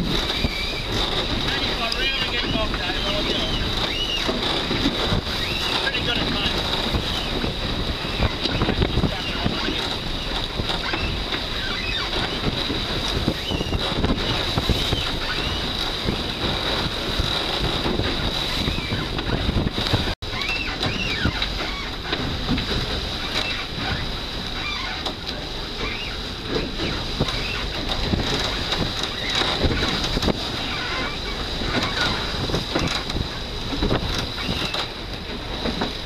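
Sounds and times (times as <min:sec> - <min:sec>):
water rushing along hull: 0:00.0 - 0:36.0
wind buffeting microphone: 0:00.0 - 0:36.0.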